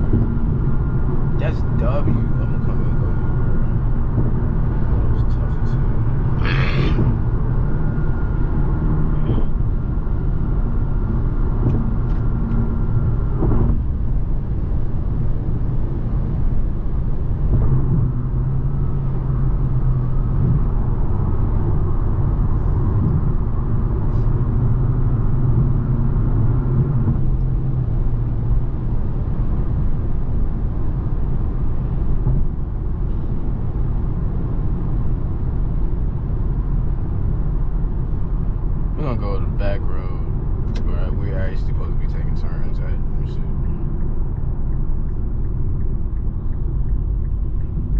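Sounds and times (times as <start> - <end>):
car engine drone: 0.0 - 47.9
road noise: 0.0 - 47.9.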